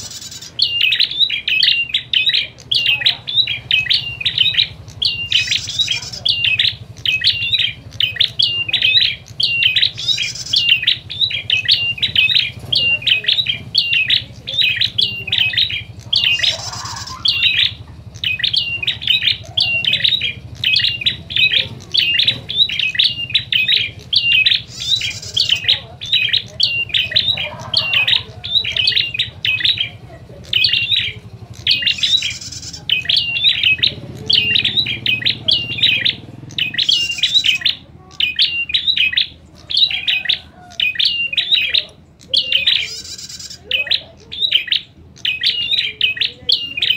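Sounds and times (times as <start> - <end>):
harsh buzzy squawk: 0.0 - 41.8, 42.5 - 45.8
steady low hum: 0.0 - 45.3
bird sharp chirps: 0.0 - 46.9.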